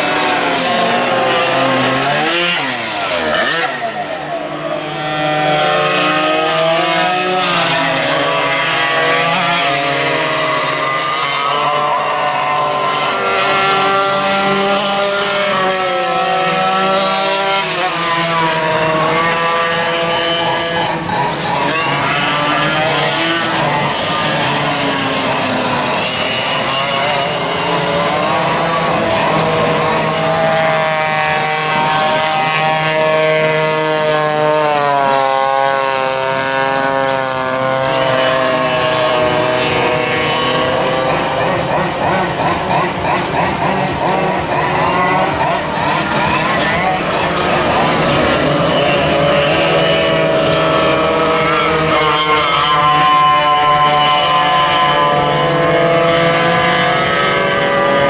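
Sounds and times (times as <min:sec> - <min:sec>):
go-kart engines at high revs: 0:00.0 - 0:58.0.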